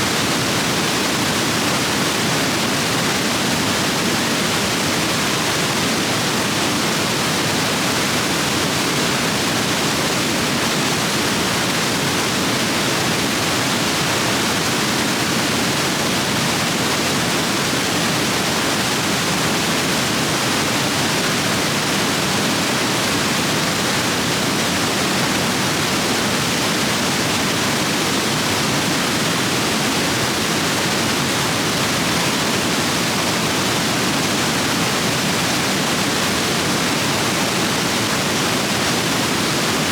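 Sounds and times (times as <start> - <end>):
stream rapids rushing over rocks: 0.0 - 39.9.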